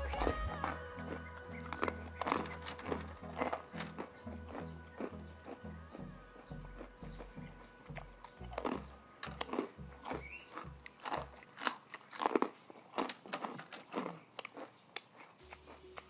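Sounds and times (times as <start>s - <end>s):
crunching potato snack sticks: 0.0s - 16.0s.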